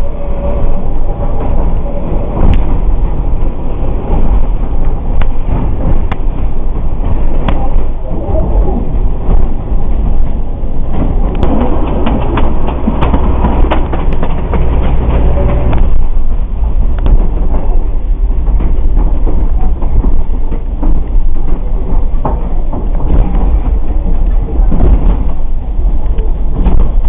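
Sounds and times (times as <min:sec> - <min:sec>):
train engine rumble: 0:00.0 - 0:27.0
wheels clicking on rails: 0:00.0 - 0:27.0.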